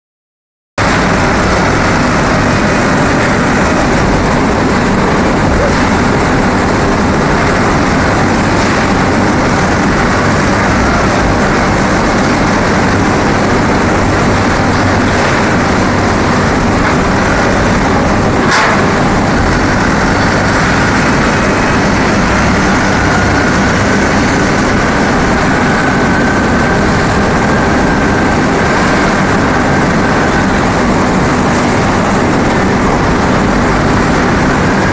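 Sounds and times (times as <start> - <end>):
high whine: 0.8 - 34.9
machinery running: 0.8 - 34.9.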